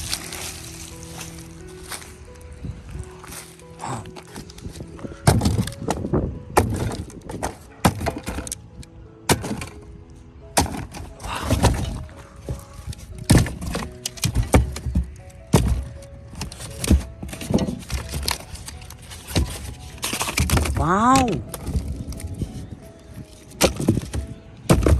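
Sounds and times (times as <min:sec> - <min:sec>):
hard objects clattering together: 0:03.2 - 0:09.9, 0:10.6 - 0:24.9.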